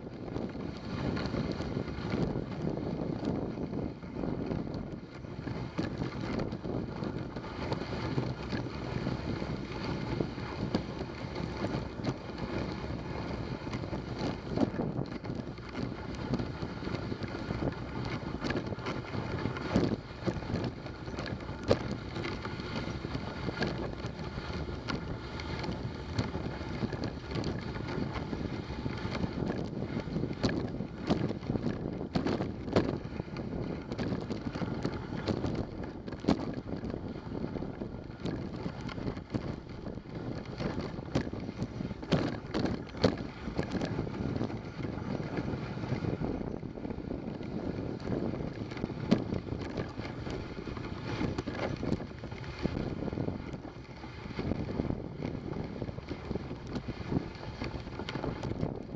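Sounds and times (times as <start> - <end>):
sled knocks and clicks: 0.0 - 58.9.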